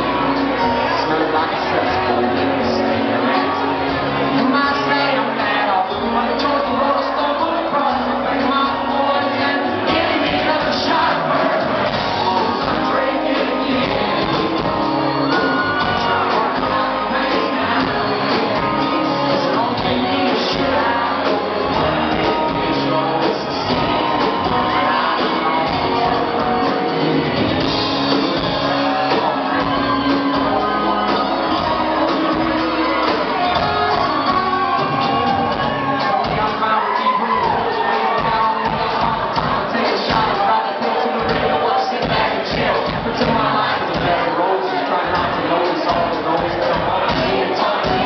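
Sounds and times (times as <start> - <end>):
keyboards: 0.0 - 48.0
man singing: 0.0 - 48.0.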